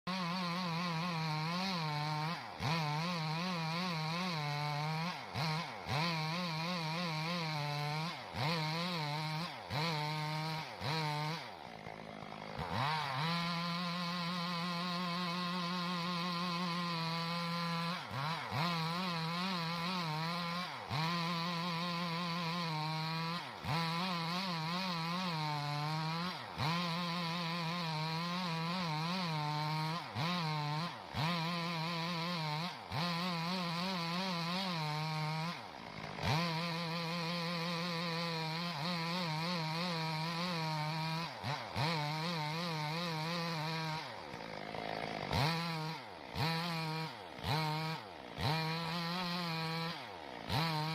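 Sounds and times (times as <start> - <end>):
chainsaw cutting log: 0.0 - 50.9.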